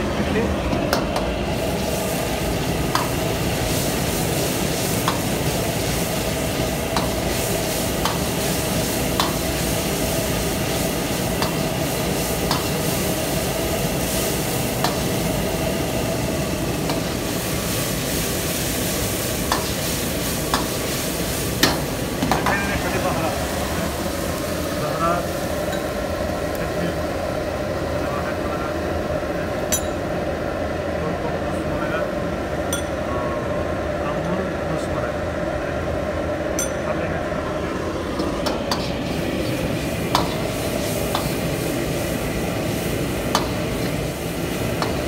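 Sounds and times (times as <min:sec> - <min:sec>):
food sizzling in a wok: 0:01.3 - 0:30.4, 0:37.8 - 0:45.0.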